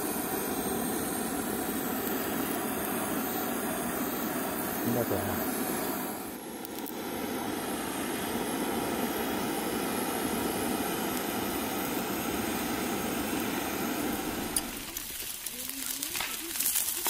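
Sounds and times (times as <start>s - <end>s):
butane torch hissing: 0.0s - 17.0s.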